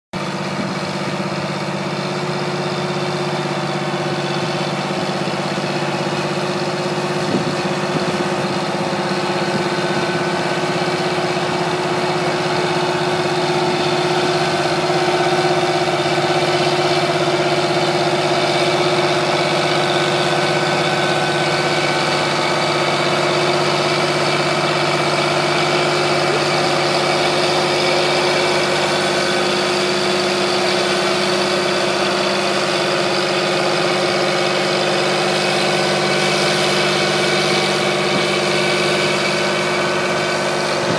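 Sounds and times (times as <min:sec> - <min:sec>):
diesel tractor engine running: 0:00.2 - 0:40.9.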